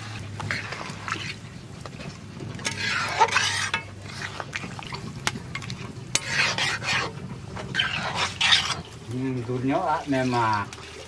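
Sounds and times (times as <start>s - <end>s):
metal spatula scraping a pan: 0.0s - 9.2s.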